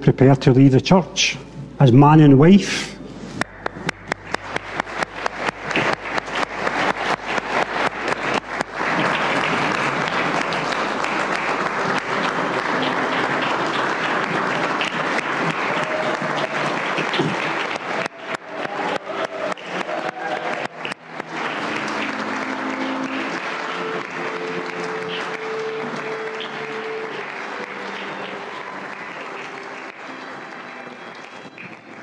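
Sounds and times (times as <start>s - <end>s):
congregation applauding: 3.4s - 32.0s.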